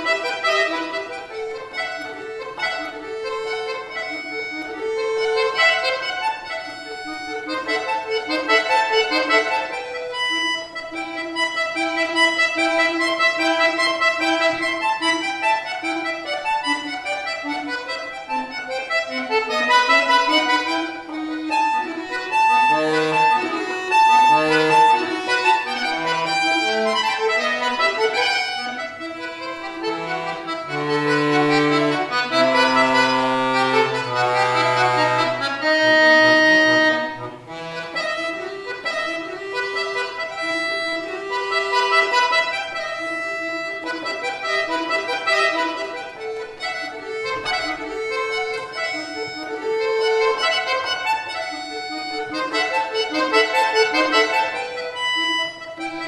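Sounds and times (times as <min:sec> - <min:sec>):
button accordion playing classical piece: 0:00.0 - 0:56.0.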